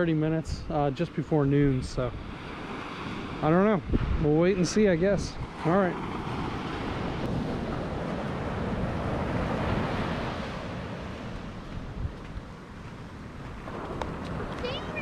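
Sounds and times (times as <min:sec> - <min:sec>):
ocean surf on beach: 0:00.0 - 0:15.0
wind buffeting microphone: 0:00.0 - 0:15.0.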